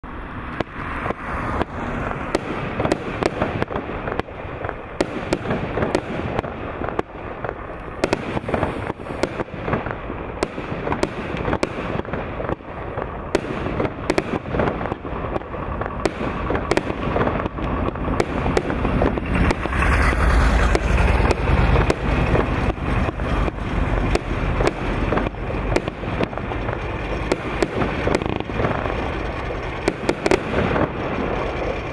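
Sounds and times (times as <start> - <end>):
firework launch thumps and bangs: 0.5 - 31.9.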